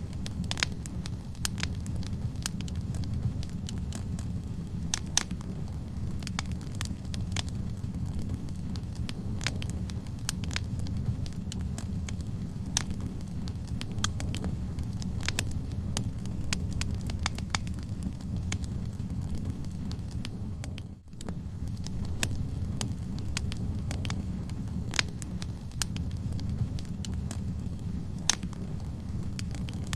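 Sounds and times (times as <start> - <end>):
burning wood crackling and popping: 0.0 - 29.9
fire flames rumbling: 0.0 - 29.9.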